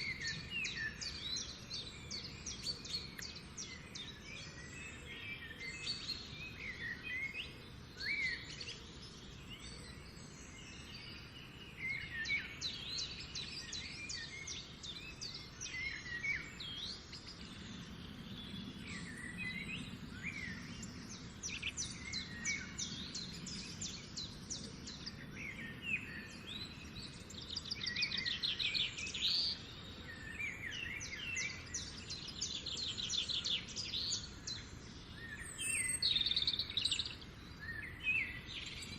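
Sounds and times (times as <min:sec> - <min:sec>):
birds chirping and trilling: 0:00.0 - 0:38.9
outdoor background noise: 0:00.0 - 0:38.9.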